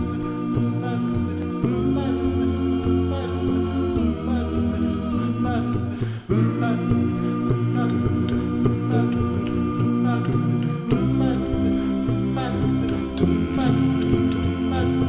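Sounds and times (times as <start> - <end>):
male group singing in harmony: 0.0 - 15.0.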